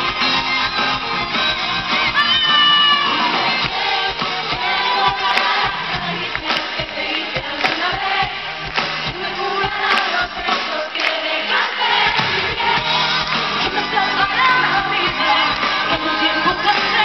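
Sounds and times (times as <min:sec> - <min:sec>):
live pop-rock band: 0:00.0 - 0:17.0
crowd singing along: 0:02.8 - 0:17.0.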